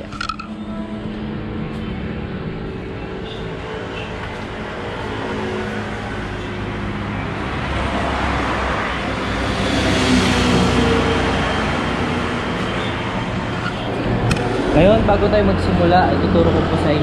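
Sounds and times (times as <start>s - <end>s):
road traffic: 0.0s - 17.0s
vehicle passing: 1.2s - 17.0s.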